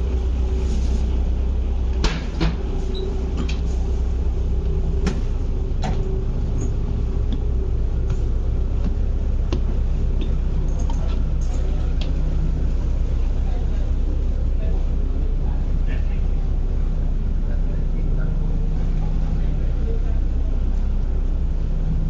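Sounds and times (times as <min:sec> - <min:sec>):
ferry engine hum: 0:00.0 - 0:22.0.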